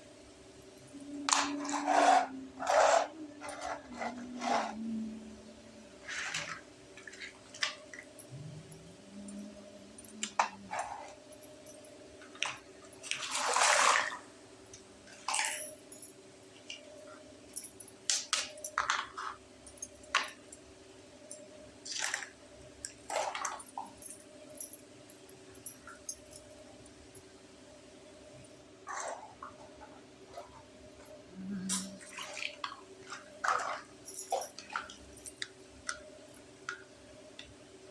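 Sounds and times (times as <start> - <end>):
steady low hum: 0.0 - 13.4, 14.1 - 37.9.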